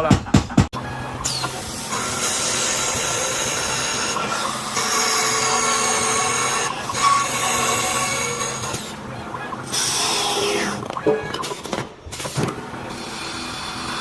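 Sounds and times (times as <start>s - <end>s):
power tool hissing and whining: 0.9s - 14.0s.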